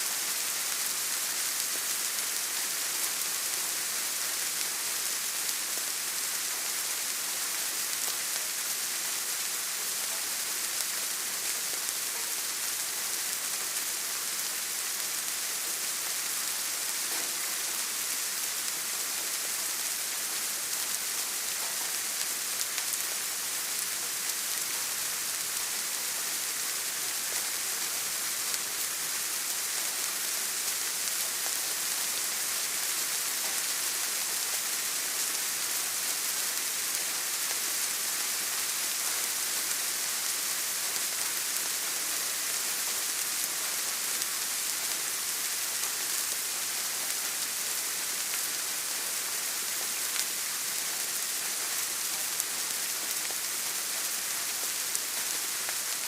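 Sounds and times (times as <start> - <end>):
patter of raindrops: 0.0 - 56.0
steady rain falling: 0.0 - 56.0.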